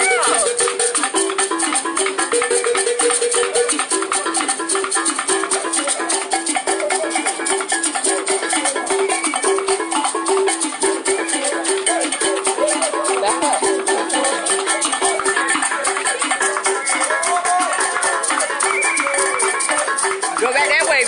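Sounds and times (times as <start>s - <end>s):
fast shaker rattle: 0.0s - 21.0s
plucked string riff: 0.0s - 21.0s.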